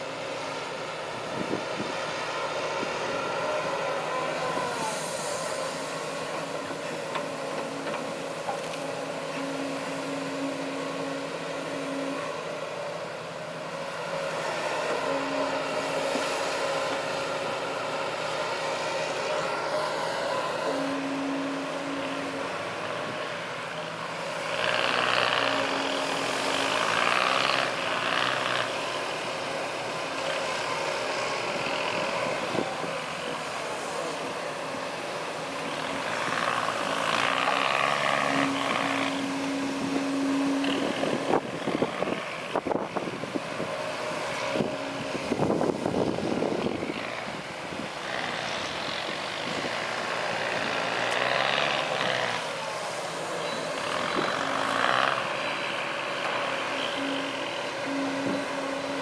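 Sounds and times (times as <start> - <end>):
heavy diesel machines revving: 0.0 - 59.0.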